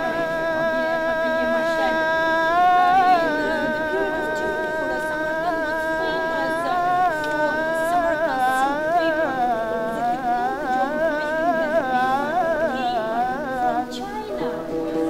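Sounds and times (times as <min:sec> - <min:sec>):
lower accompaniment: 0:00.0 - 0:15.0.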